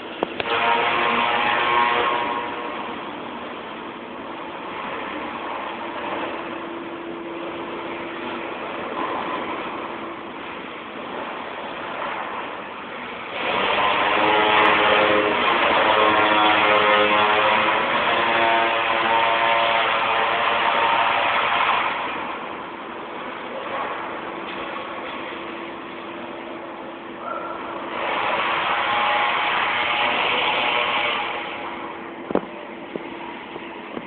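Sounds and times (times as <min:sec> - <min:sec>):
welding arc buzzing crackle: 0:00.0 - 0:27.1, 0:27.8 - 0:34.0
welding setup hum: 0:00.0 - 0:34.0.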